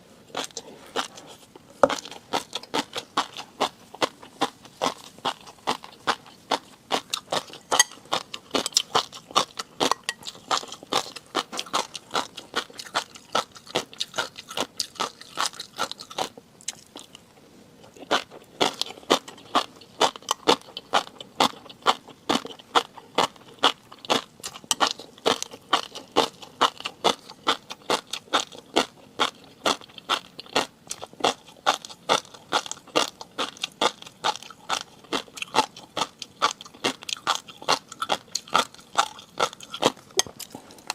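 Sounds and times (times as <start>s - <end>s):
crunchy chewing: 0.2s - 40.9s.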